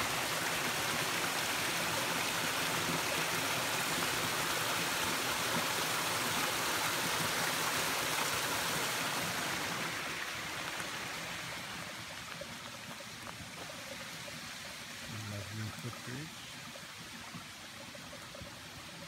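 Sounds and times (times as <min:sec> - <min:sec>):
waterfall splashing over rocks: 0:00.0 - 0:19.0.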